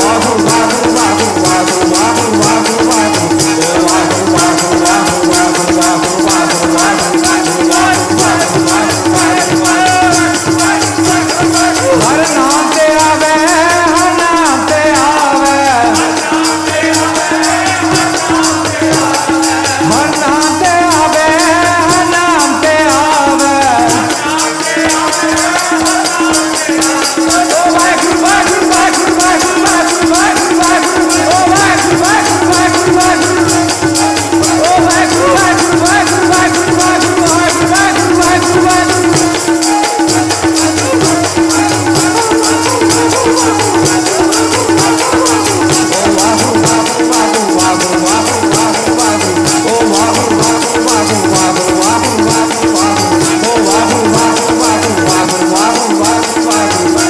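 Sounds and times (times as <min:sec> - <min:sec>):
harmonium holding a steady note: 0:00.0 - 0:57.0
person singing: 0:00.0 - 0:57.0
rattling percussion: 0:00.0 - 0:57.0.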